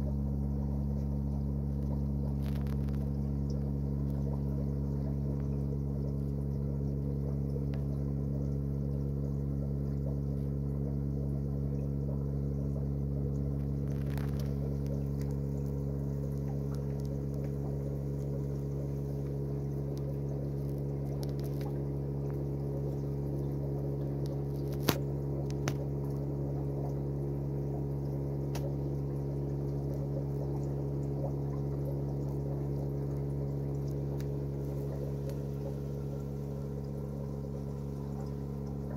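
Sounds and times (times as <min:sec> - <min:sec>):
aquarium pump humming: 0:00.0 - 0:38.9
faint water trickle: 0:00.0 - 0:38.9.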